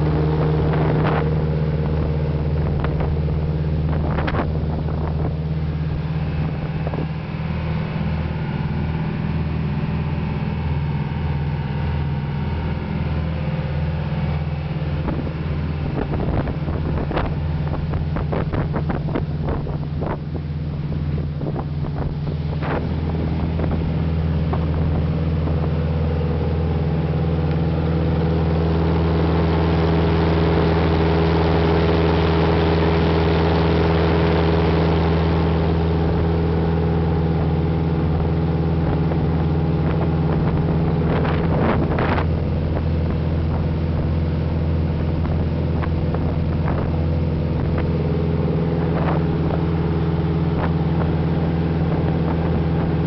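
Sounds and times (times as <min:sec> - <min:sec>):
motorboat engine drone: 0:00.0 - 0:53.0
water rushing past hull: 0:00.0 - 0:53.0.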